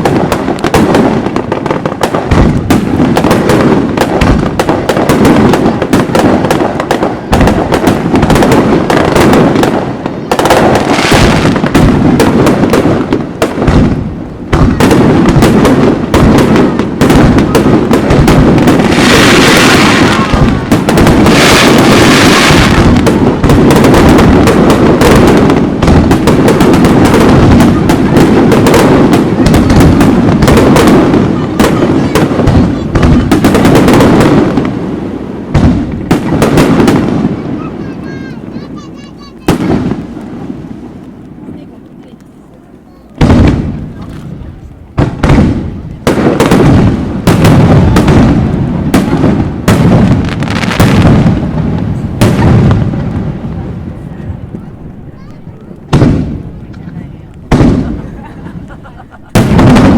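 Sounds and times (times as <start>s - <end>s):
fireworks bursts and booms: 0.0s - 59.9s
fireworks crackling hiss: 0.0s - 59.9s.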